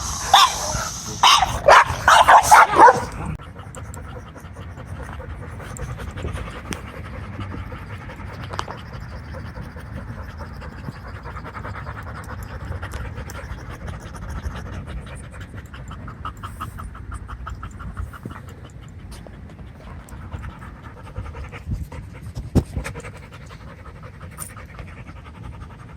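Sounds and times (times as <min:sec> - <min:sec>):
dog panting: 0:00.0 - 0:25.9
steady low rumble: 0:00.0 - 0:25.9.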